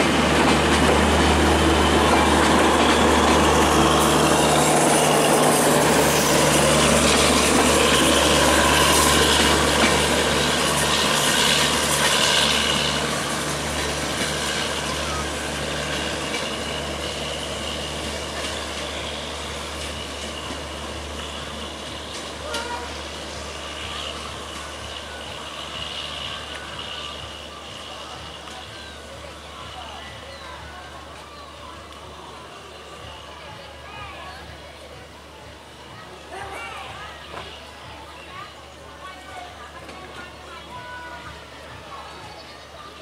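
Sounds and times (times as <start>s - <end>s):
train coaches rolling on rails: 0.0s - 43.0s.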